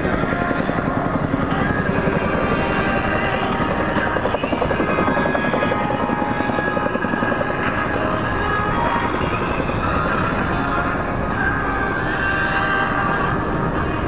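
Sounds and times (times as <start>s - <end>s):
helicopter engine whine: 0.0s - 14.0s
helicopter rotors beating: 0.0s - 14.0s.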